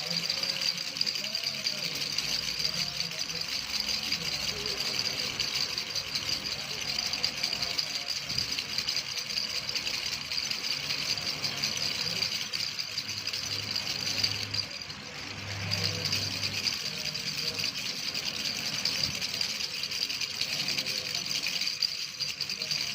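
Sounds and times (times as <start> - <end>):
baby rattle shaken: 0.0 - 22.9.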